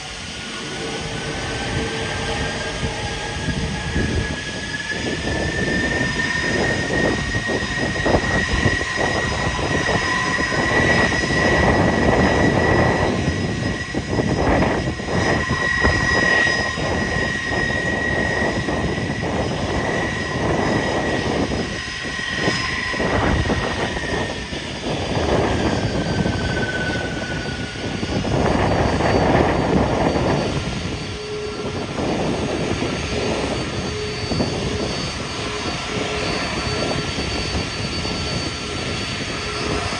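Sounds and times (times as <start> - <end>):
jet engine high whine: 0.0 - 39.9
jet engine rushing noise: 0.0 - 39.9.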